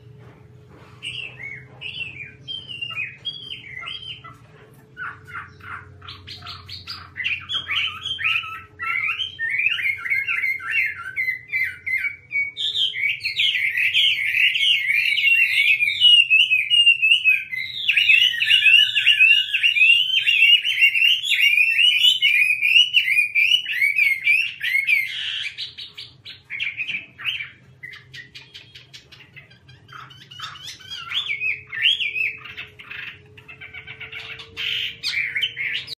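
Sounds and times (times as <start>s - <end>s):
bird singing whistled song: 1.0s - 4.4s, 5.0s - 36.0s.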